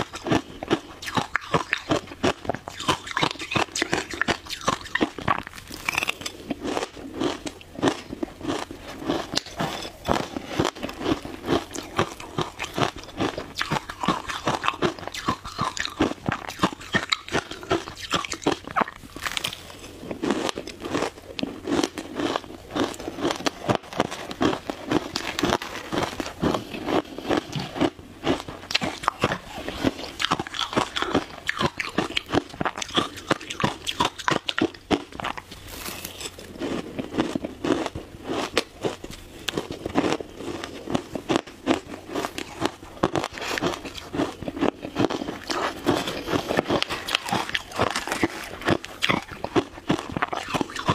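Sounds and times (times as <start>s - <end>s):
crunching shaved ice: 0.0s - 50.9s.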